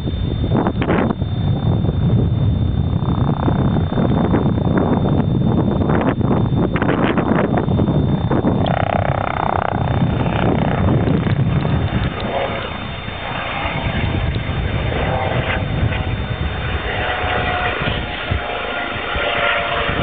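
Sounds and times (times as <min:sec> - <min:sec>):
faint whine: 0:00.0 - 0:20.0
helicopter engine and rotor rumble: 0:00.0 - 0:20.0
wind noise on microphone: 0:00.0 - 0:20.0.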